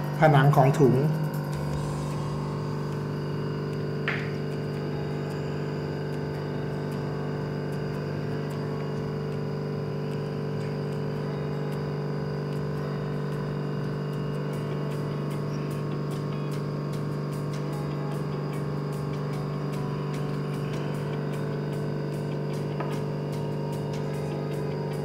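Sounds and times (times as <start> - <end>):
vacuum pump motor humming: 0.0 - 25.0.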